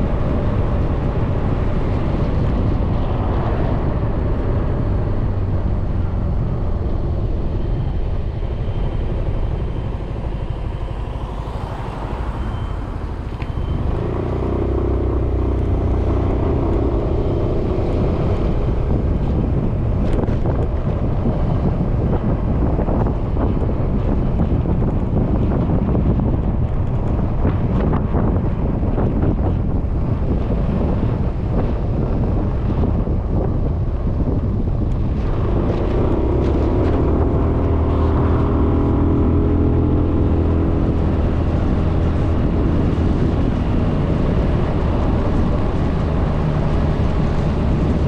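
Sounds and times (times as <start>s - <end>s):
scooter engine and tyres drone: 0.0s - 48.0s
wind on microphone: 0.0s - 48.0s.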